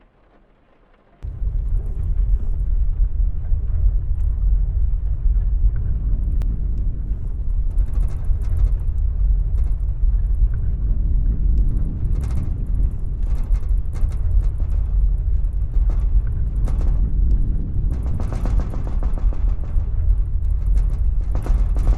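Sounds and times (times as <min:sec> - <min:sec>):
deep earthquake rumble: 0:01.1 - 0:21.9.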